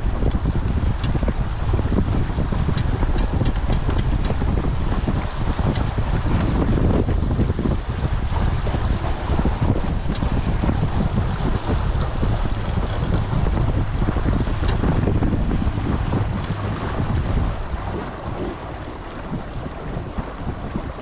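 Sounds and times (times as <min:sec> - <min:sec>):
water rushing along hull: 0:00.0 - 0:21.0
wind buffeting microphone: 0:00.0 - 0:21.0.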